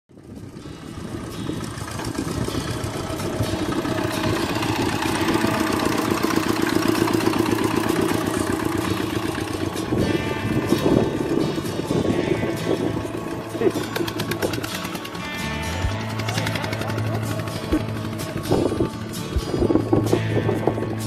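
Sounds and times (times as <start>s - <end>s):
diesel engine chugging under load: 0.2s - 21.0s.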